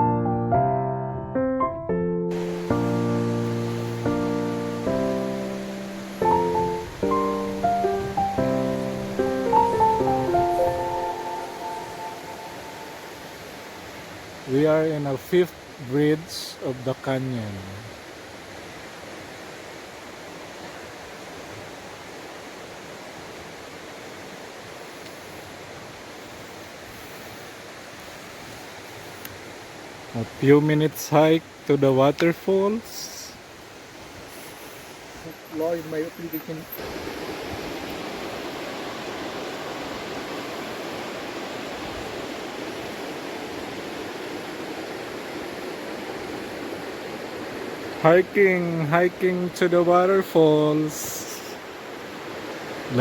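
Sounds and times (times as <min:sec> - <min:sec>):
fast river water roaring: 0:02.3 - 0:53.0.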